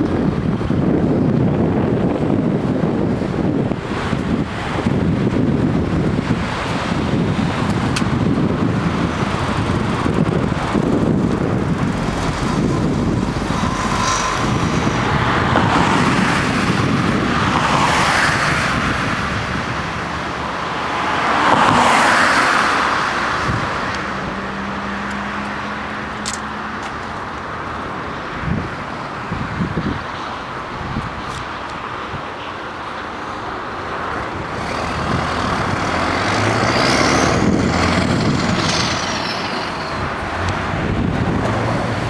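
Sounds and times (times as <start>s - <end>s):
truck diesel engine rumbling: 0.0s - 30.8s, 33.4s - 42.0s
road traffic noise: 0.0s - 42.0s.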